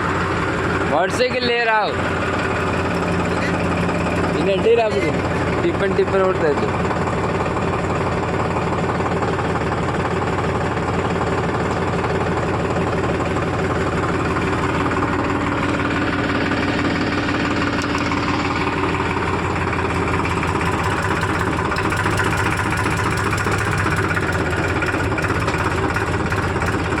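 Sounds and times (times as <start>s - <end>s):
diesel machinery engine running: 0.0s - 27.0s.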